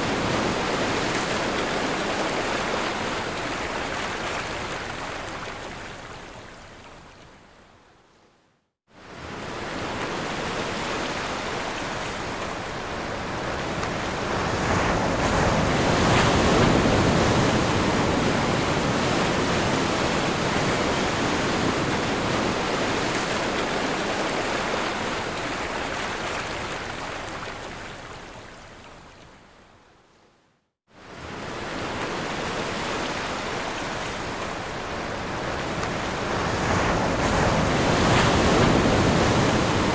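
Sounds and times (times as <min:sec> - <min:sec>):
ocean waves breaking: 0:00.0 - 0:05.8, 0:09.1 - 0:27.8, 0:31.0 - 0:39.9.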